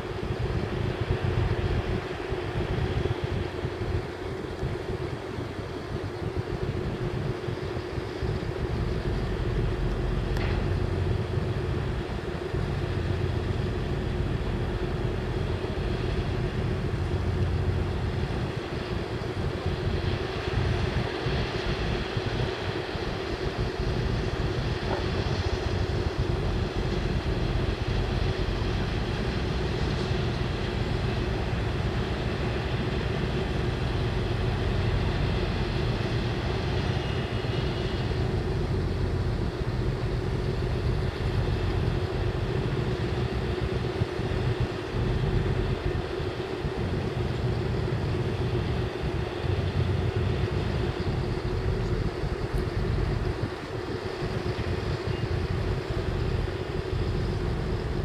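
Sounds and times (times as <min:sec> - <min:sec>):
ship engines droning: 0:00.0 - 0:58.0
wind rumbling on microphone: 0:00.0 - 0:58.0.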